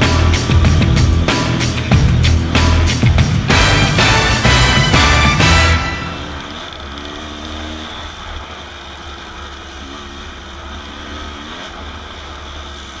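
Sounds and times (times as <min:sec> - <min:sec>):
two-stroke dirt bike engine: 0:00.0 - 0:13.0.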